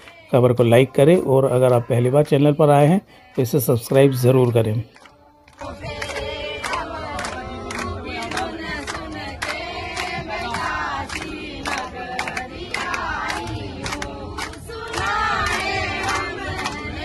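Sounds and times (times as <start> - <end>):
crowd singing devotional song: 0.0 - 17.0
rhythmic hand-clapping: 3.2 - 17.0.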